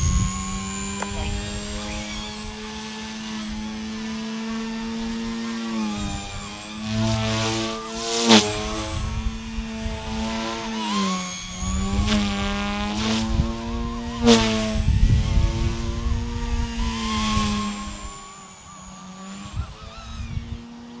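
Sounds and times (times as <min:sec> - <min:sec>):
rc helicopter motor whining: 0:00.0 - 0:21.0.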